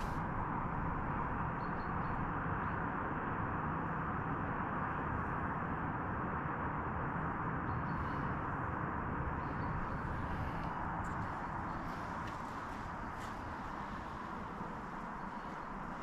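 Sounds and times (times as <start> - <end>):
distant road traffic hum: 0.0 - 16.0.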